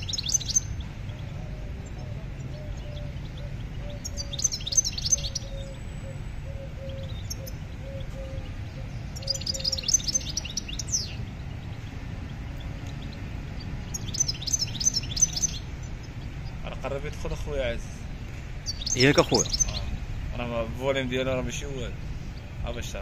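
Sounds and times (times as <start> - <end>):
songbird twittering: 0.0 - 23.0.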